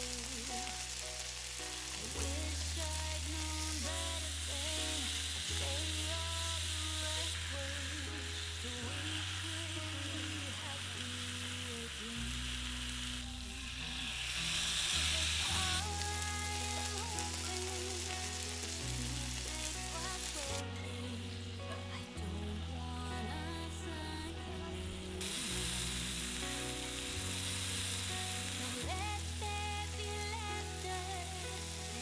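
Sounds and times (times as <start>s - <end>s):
vegetables sizzling in oil: 0.0s - 24.2s, 24.8s - 32.0s
soft background music: 0.0s - 32.0s.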